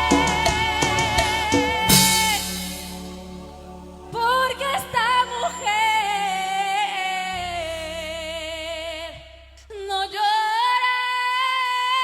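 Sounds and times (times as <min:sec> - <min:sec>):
low accompaniment chords: 0:00.0 - 0:10.2
woman singing a long note: 0:00.0 - 0:12.0.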